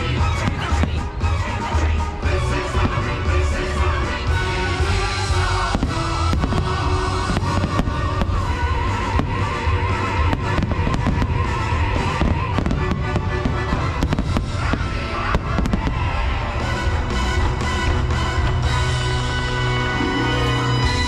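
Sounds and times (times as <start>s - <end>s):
fireworks bangs and crackles: 0.0s - 19.8s
loud music: 0.0s - 21.0s.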